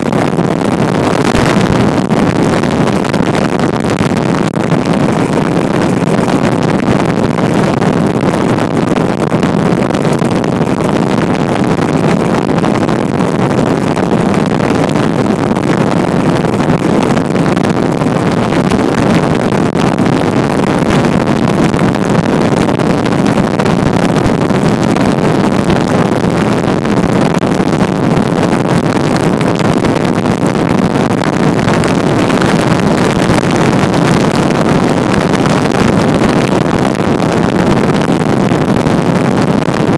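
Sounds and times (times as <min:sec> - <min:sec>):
motorboat engine at speed: 0:00.0 - 0:39.9
wind on microphone: 0:00.0 - 0:39.9.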